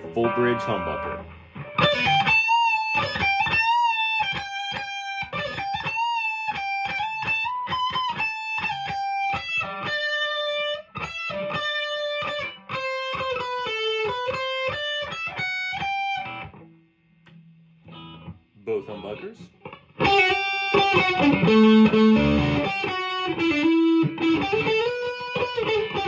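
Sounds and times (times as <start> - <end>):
distorted electric guitar lead: 0.0 - 16.7, 17.9 - 26.0.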